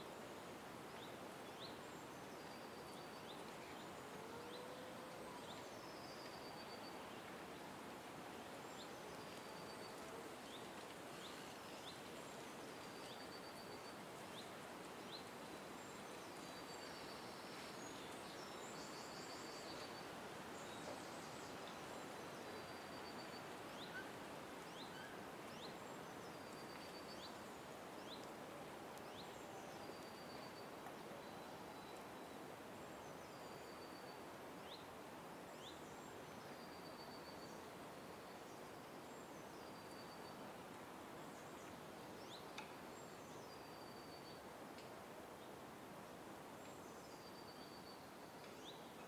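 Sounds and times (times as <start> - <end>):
faint background hiss: 0.0 - 49.0.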